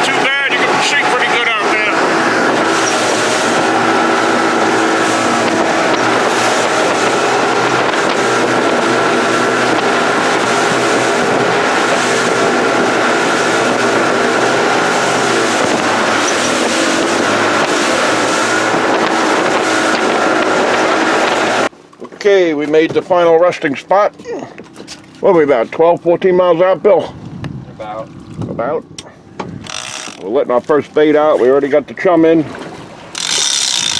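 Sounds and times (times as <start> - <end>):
boat engine running: 0.0 - 33.9
wind and water rushing: 0.0 - 33.9.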